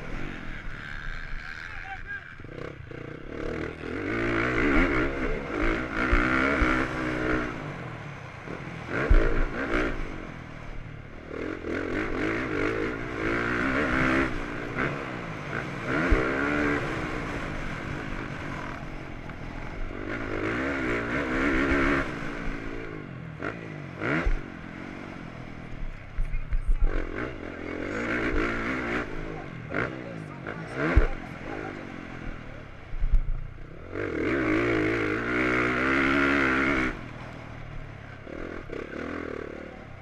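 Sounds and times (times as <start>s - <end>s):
motocross bike engine revving: 0.0s - 40.0s.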